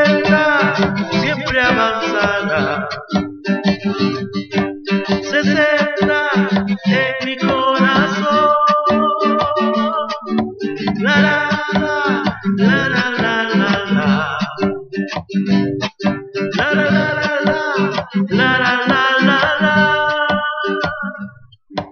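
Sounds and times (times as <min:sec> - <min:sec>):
strummed acoustic guitar song: 0:00.0 - 0:21.9.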